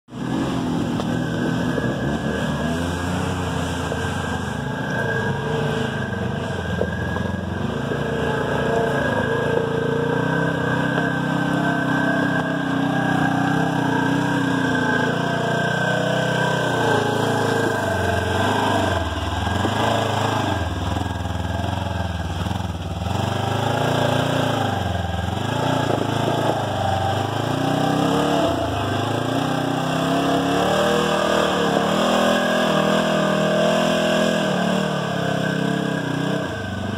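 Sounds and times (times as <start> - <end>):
vehicle engine revving: 0.0 - 36.9.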